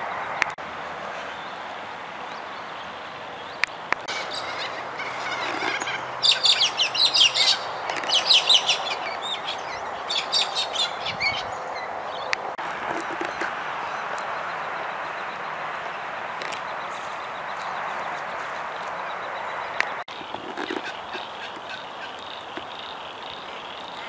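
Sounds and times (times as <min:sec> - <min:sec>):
cockatoos chattering: 0:03.6 - 0:24.0.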